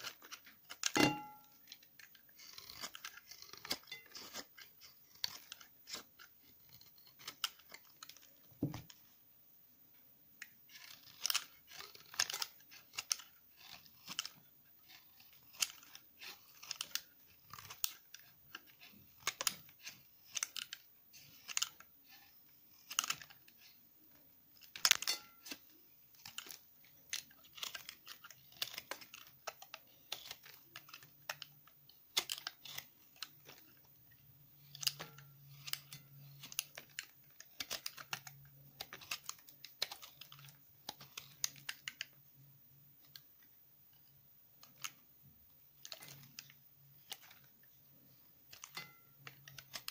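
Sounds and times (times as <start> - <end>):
knife scraping soap: 0.0 - 9.0, 10.4 - 23.8, 24.5 - 42.1, 45.7 - 49.9.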